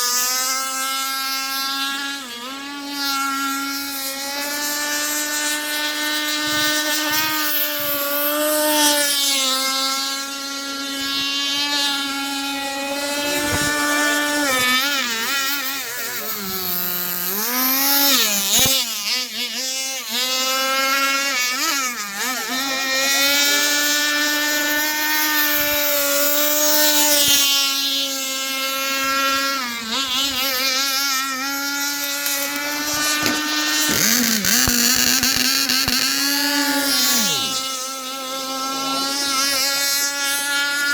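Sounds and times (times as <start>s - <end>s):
small engine running high-pitched: 0.0s - 40.9s.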